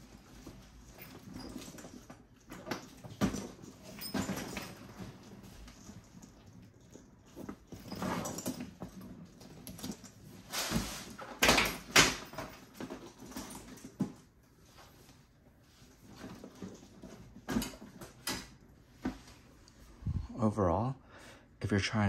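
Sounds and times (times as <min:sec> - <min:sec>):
leather bags rustling and scuffing: 0:00.0 - 0:18.0.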